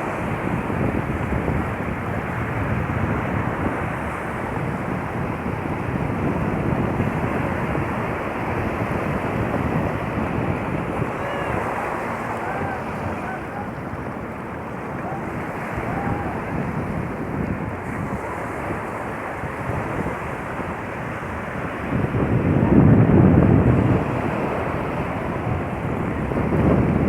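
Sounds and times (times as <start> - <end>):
sea waves washing ashore: 0.0 - 27.0
wind buffeting microphone: 0.0 - 27.0.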